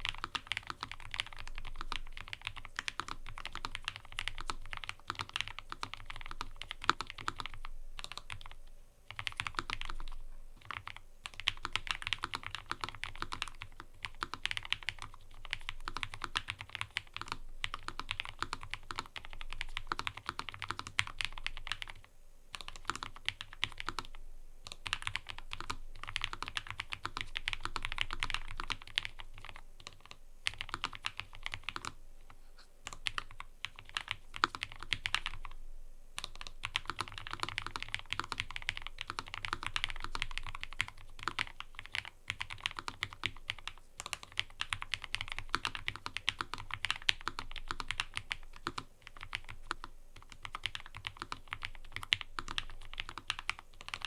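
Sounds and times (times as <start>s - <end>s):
typing on mechanical keyboard: 0.0s - 32.0s, 32.8s - 35.6s, 36.2s - 54.0s.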